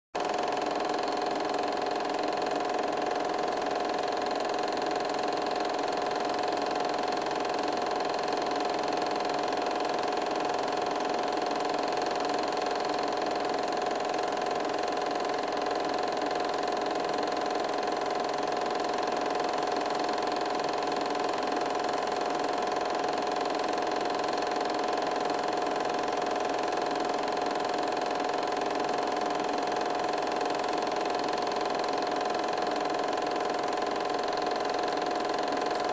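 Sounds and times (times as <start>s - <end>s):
film projector mechanical hum: 0.2s - 35.9s.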